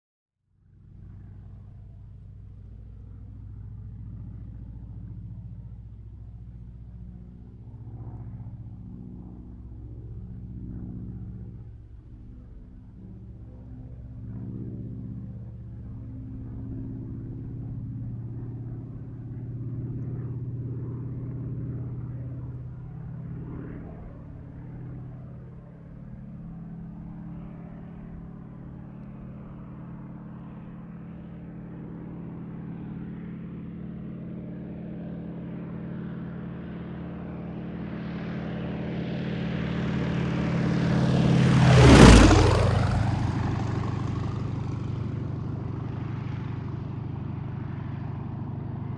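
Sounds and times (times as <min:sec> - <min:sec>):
helicopter rotor and engine drone: 0:00.6 - 0:48.9.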